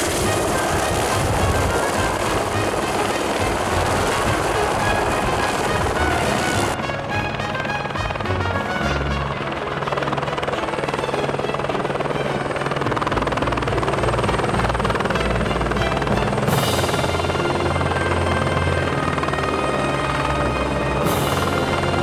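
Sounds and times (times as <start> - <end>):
background music: 0.0 - 22.0
helicopter rotor chop: 0.0 - 22.0.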